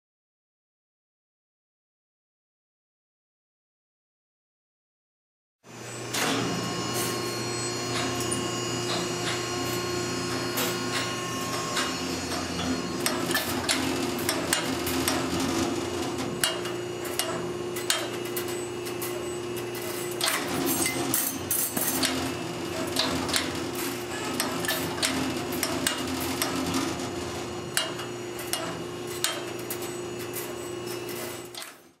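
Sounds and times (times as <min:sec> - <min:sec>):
machine motor hum: 0:05.7 - 0:31.9.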